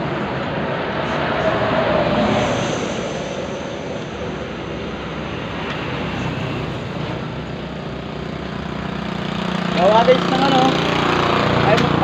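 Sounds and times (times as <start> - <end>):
vehicle passing: 0.0 - 12.0.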